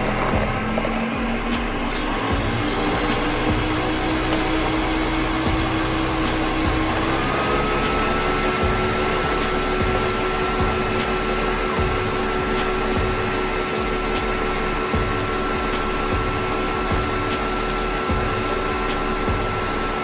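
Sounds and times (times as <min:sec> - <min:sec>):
blender motor whine: 0:00.0 - 0:20.0.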